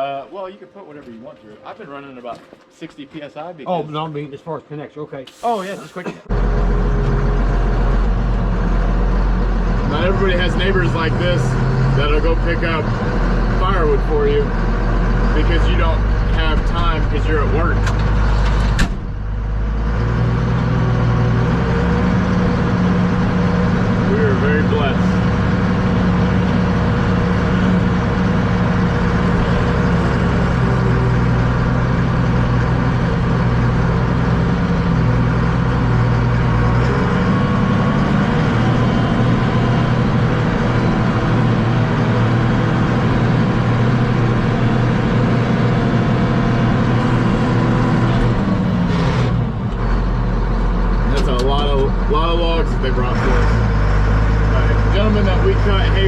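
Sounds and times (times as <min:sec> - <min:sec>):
vehicle engine running: 0:05.3 - 0:56.0.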